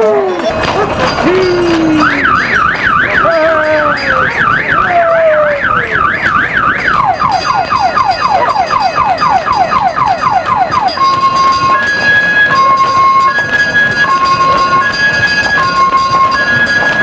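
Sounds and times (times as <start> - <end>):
car alarm siren warbling: 0.0 - 17.0.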